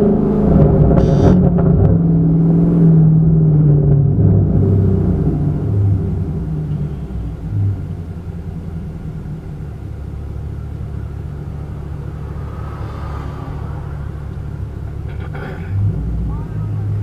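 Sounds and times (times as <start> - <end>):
car engine rumbling: 0.0 - 17.0
exhaust crackles: 0.0 - 17.0.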